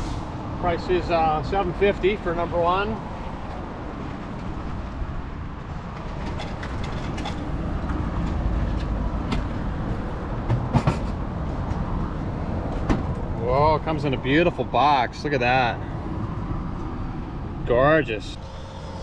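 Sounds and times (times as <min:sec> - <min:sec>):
vehicle rumble passing: 0:00.0 - 0:19.0.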